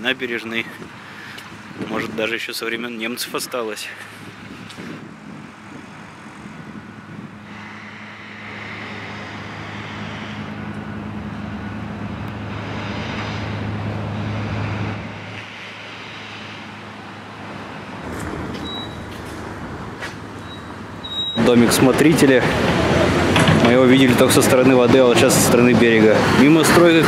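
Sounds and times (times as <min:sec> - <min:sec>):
street traffic: 0:00.0 - 0:27.0
vehicle engine humming: 0:04.0 - 0:27.0.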